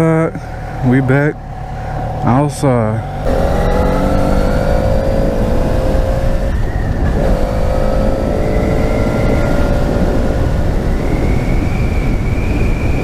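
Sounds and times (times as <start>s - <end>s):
wind noise: 0.0s - 13.0s
motorcycle engine accelerating: 0.7s - 13.0s.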